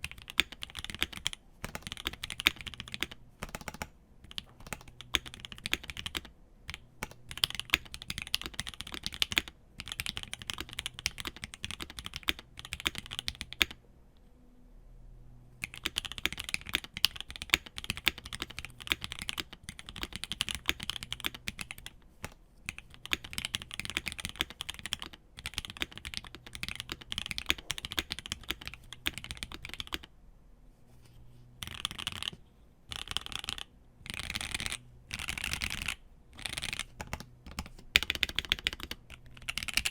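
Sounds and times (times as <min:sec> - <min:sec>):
fast typing on mechanical keyboard: 0:00.0 - 0:13.8, 0:15.6 - 0:30.1, 0:31.6 - 0:39.9.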